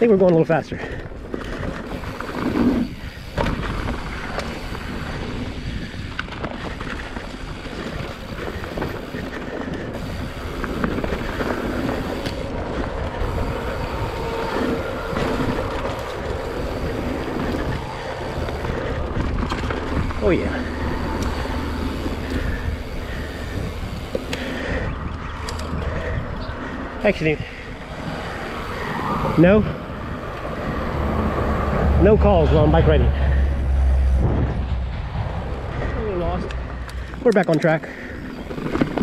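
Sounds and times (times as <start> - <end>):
mountain bike rolling over rocks: 0.0 - 33.4, 35.8 - 39.0
wind buffeting microphone: 0.0 - 39.0.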